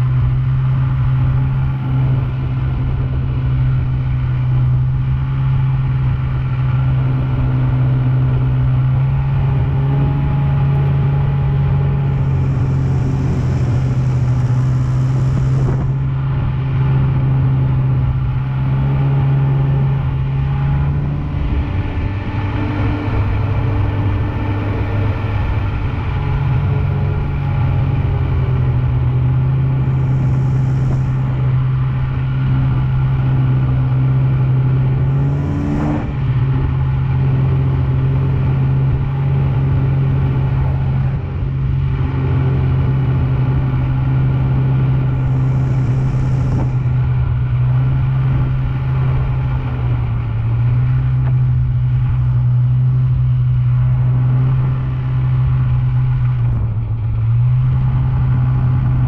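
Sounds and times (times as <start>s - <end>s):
snowmobile engine droning: 0.0s - 59.0s.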